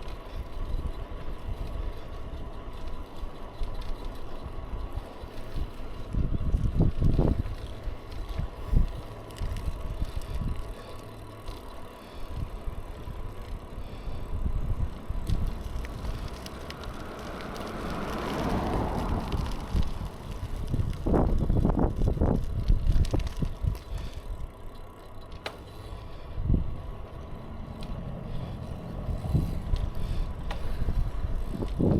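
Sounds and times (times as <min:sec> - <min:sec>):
wind buffeting microphone: 0:00.0 - 0:24.7, 0:25.8 - 0:31.9
bicycle tyre and road noise: 0:00.0 - 0:31.9.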